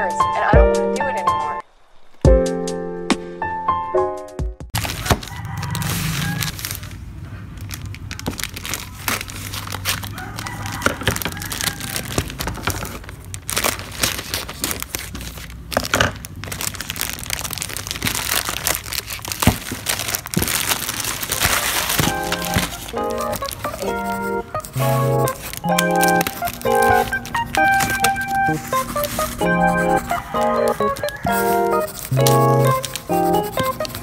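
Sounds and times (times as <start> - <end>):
plastic mailer bag crinkling: 4.8 - 34.0.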